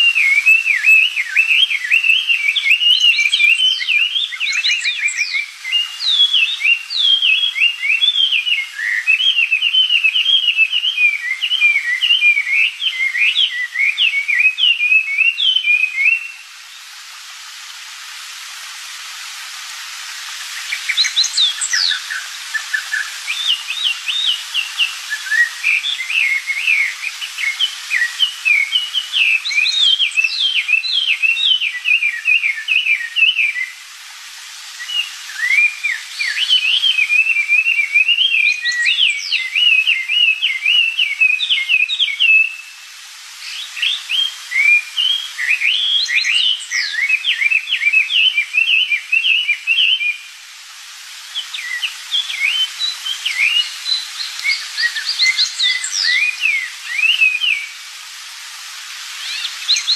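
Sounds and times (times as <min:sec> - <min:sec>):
bird singing whistled song: 0:00.0 - 0:16.8, 0:20.6 - 0:33.8, 0:34.8 - 0:42.8, 0:43.4 - 0:50.3, 0:51.4 - 0:57.8, 0:59.2 - 0:59.9.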